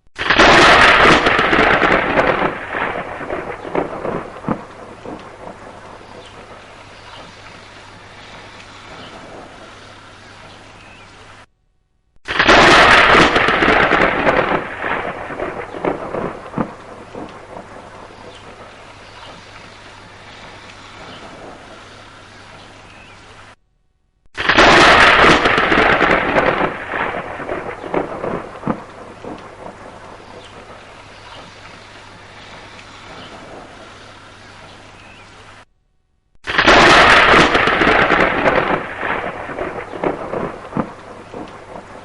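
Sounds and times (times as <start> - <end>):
thunderclap: 0.0 - 9.8, 12.2 - 21.8, 24.3 - 34.1, 36.4 - 42.0
steady rain: 0.0 - 11.5, 12.2 - 23.6, 24.4 - 35.7, 36.4 - 42.0.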